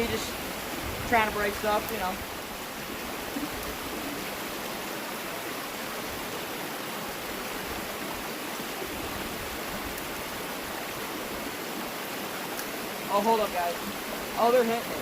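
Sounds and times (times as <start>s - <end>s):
creek water rushing over waterfalls: 0.0s - 15.0s.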